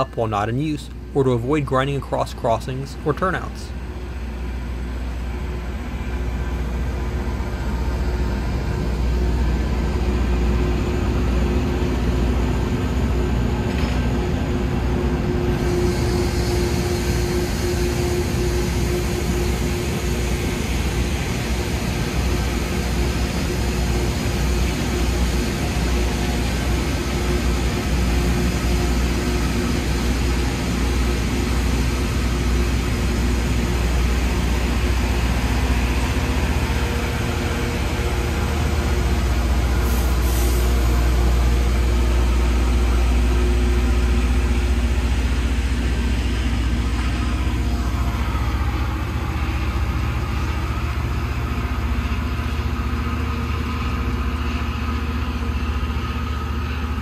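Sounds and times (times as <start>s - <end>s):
low diesel rumble: 0.0s - 57.0s.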